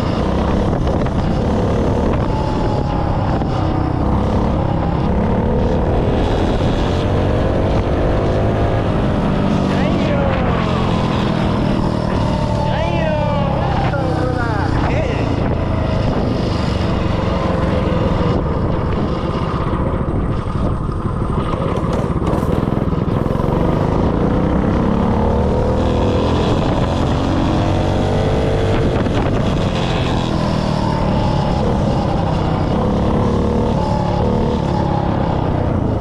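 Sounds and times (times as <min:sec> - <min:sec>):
small engine revving: 0:00.0 - 0:36.0.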